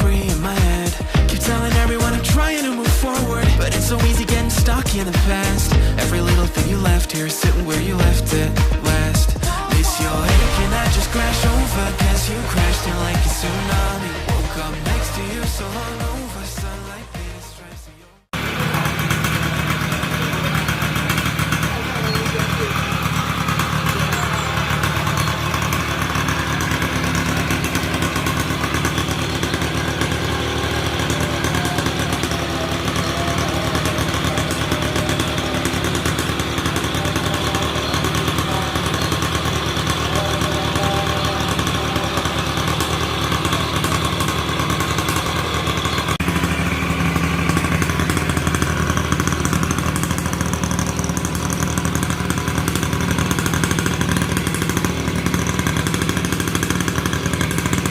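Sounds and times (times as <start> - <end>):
two-stroke motorcycle engine running: 0.0 - 57.9.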